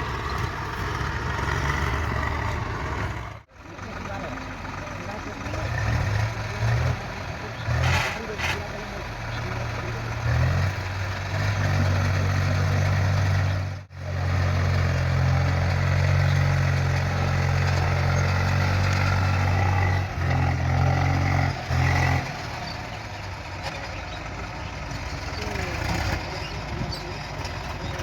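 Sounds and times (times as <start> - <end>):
diesel engine of heavy machine: 0.0 - 28.0.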